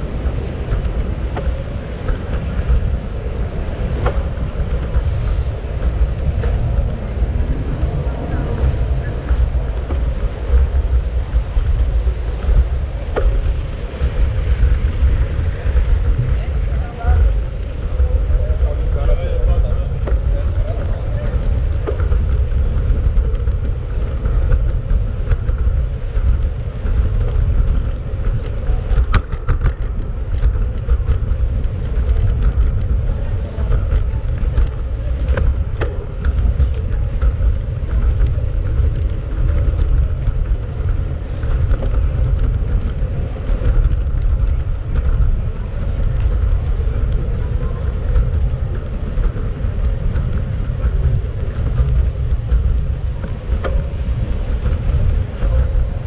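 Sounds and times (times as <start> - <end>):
city street traffic: 0.0 - 56.0
wind rumbling on microphone: 0.0 - 56.0.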